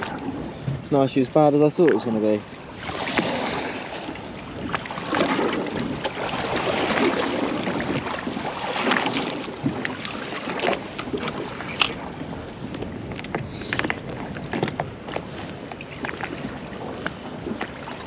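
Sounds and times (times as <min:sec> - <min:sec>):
water slapping against hull: 0:00.0 - 0:18.0
wind on microphone: 0:00.0 - 0:18.0.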